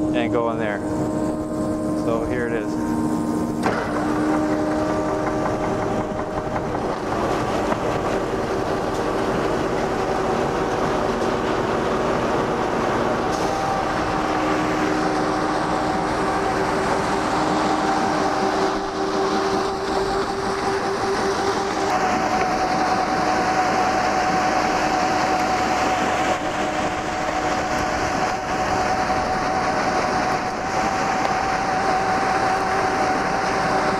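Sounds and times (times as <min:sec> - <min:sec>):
concrete mixer rattling and churning: 0:00.0 - 0:33.9
steady whining tones: 0:00.0 - 0:33.9.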